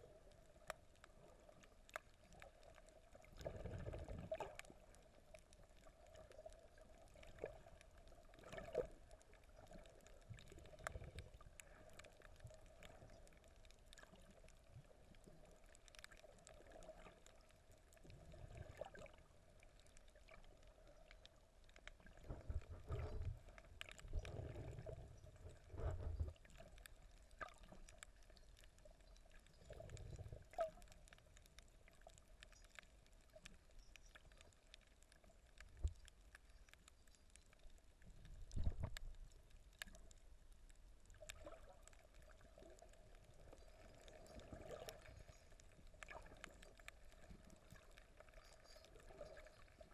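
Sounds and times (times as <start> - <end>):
muffled underwater water swells: 0.0 - 49.9
small clicks: 0.3 - 49.9.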